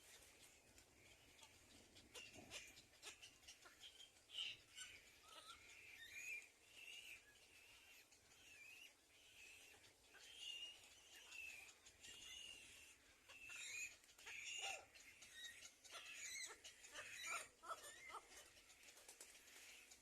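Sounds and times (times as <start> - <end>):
sharp bird notes and clicks: 0.0 - 20.0
small birds chirping: 0.0 - 20.0.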